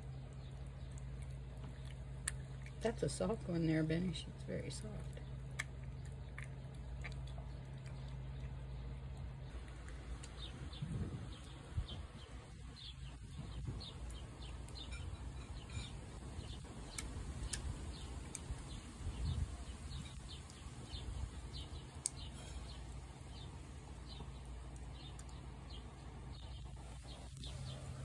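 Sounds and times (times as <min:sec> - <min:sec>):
small bird chirping: 0:04.1 - 0:28.0.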